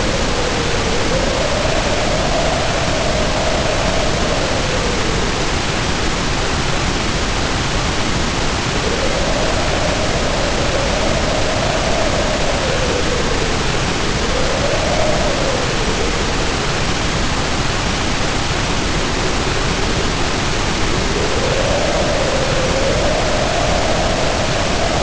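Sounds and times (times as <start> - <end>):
heavy rain pouring: 0.0 - 25.0
hollow wind howl: 0.0 - 25.0.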